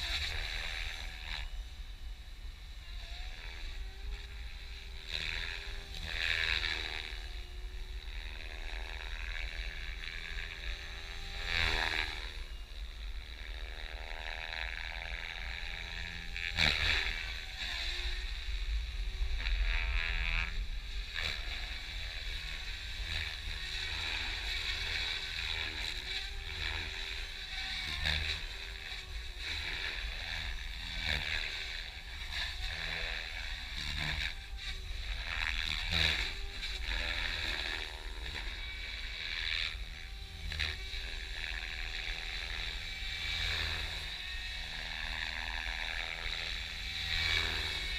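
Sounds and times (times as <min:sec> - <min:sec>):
electric motor whining: 0:00.0 - 0:47.9.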